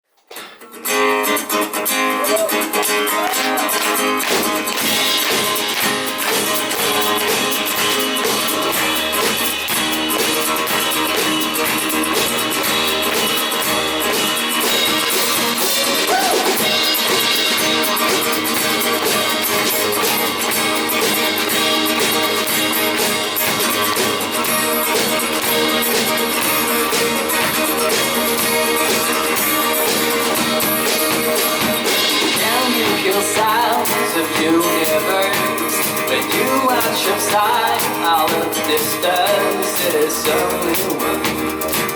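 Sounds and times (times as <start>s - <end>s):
acoustic guitar: 0.0s - 41.9s
drums: 0.1s - 41.9s.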